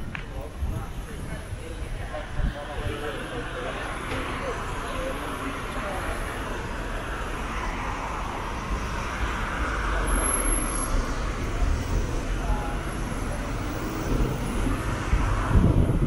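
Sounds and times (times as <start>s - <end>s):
rumble of passing cars: 0.0s - 16.0s.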